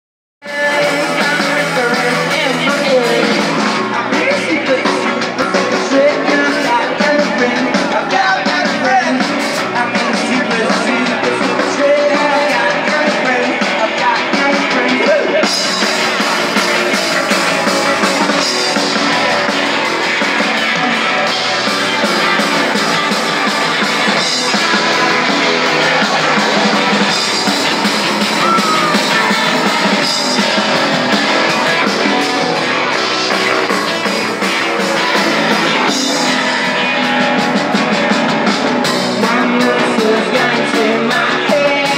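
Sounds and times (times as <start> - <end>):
rock band playing live: 0.4 - 41.9.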